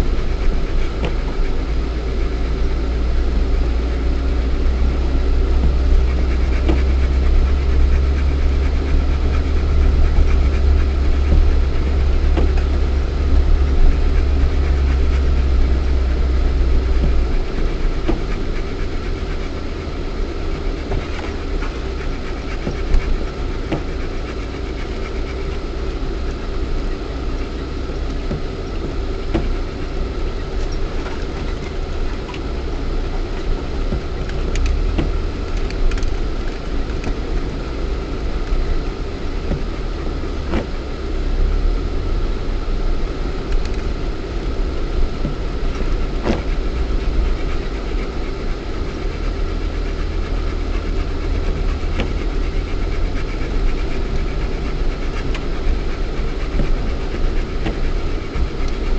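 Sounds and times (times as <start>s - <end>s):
car engine droning: 0.0s - 58.9s.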